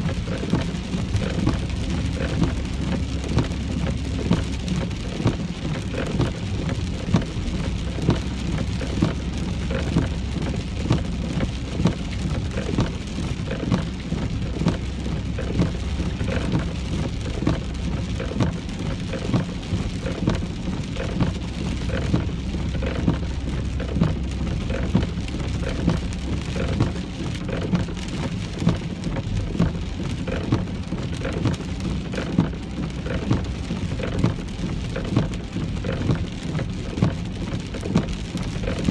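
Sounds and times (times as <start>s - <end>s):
engine and tyre hum: 0.0s - 38.9s
rain pattering on a car: 0.0s - 38.9s.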